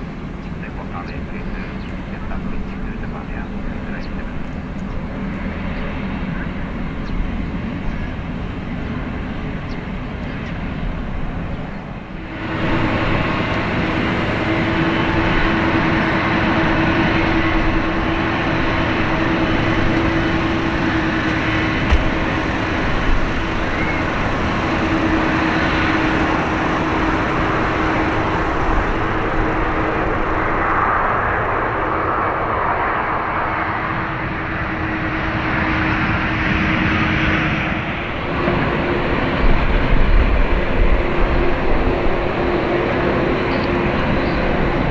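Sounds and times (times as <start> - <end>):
jet airliner engines droning: 0.0 - 44.9.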